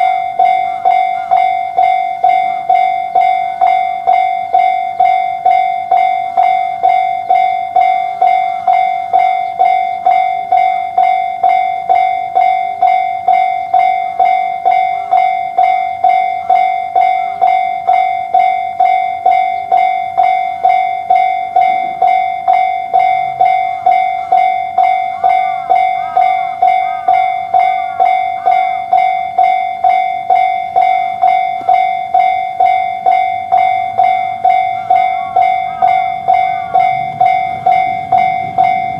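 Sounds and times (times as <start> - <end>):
level-crossing alarm bell ringing: 0.0 - 38.9.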